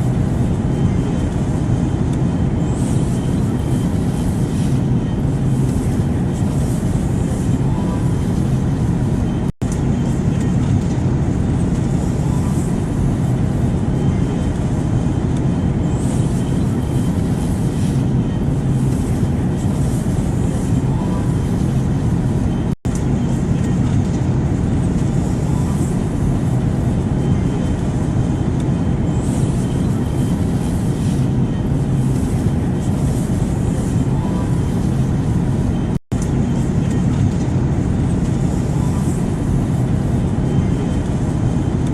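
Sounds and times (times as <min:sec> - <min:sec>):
airplane noise deep rumble: 0:00.0 - 0:41.9.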